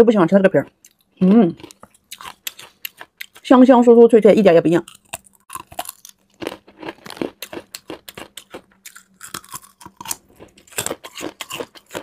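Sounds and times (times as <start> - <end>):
crunching and chewing: 0.8 - 3.4, 4.8 - 12.0.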